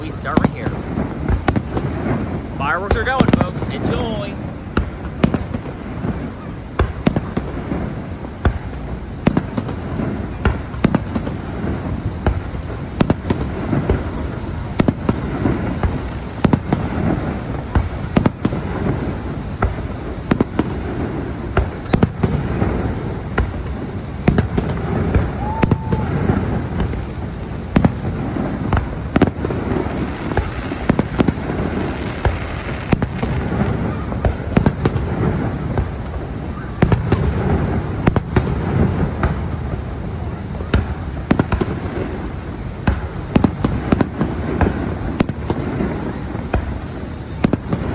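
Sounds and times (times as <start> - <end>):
fireworks bangs and booms: 0.0 - 47.9
low rumble of explosions: 0.0 - 47.9.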